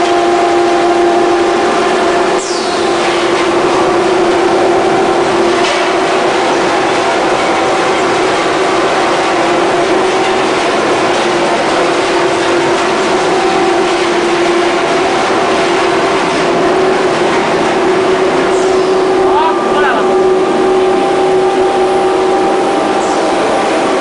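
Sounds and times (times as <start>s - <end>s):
blower rushing air: 0.0s - 24.0s
constant-pitch machine hum: 0.0s - 24.0s.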